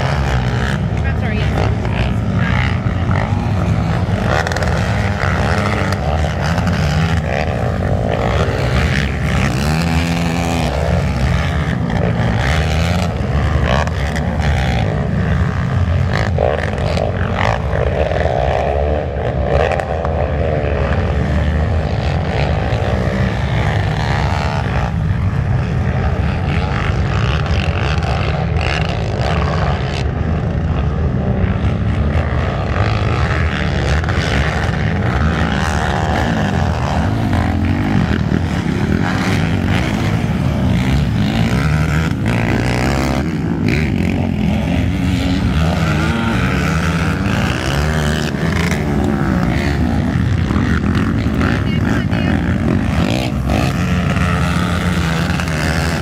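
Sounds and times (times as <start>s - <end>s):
quad engines revving: 0.0s - 56.0s.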